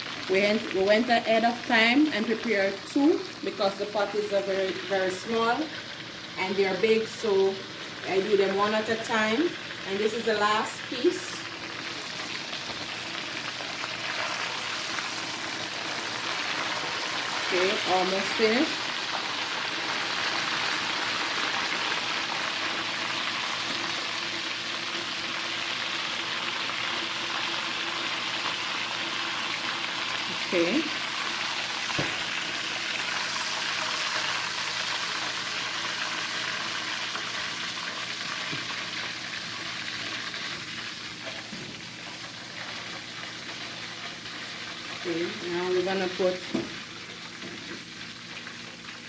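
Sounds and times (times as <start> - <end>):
chicken sizzling as it fries: 0.0 - 49.0.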